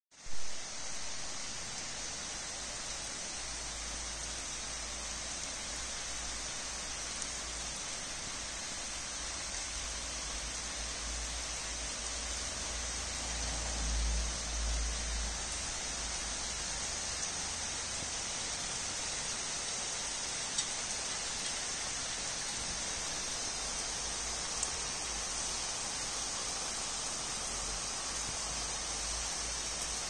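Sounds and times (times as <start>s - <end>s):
steady rain hiss: 0.1s - 30.0s.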